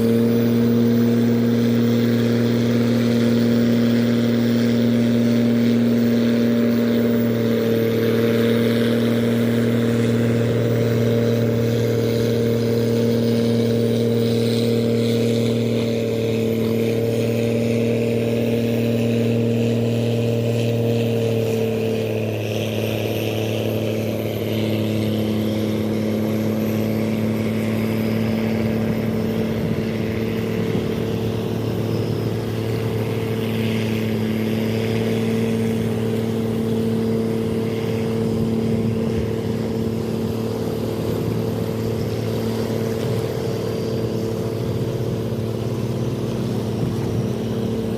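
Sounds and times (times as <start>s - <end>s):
boat engine droning: 0.0s - 47.9s.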